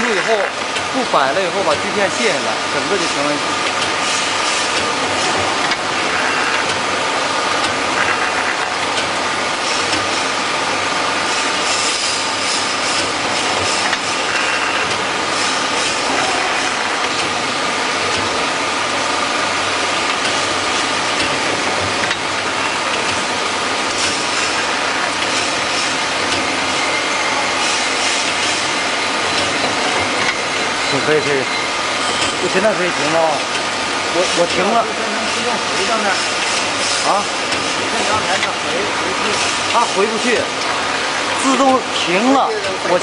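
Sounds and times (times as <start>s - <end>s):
grinding machine whine: 0.0s - 43.0s.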